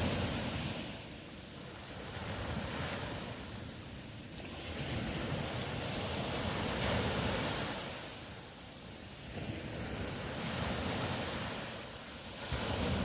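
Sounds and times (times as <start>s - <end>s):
ocean waves breaking on shore: 0.0s - 13.0s.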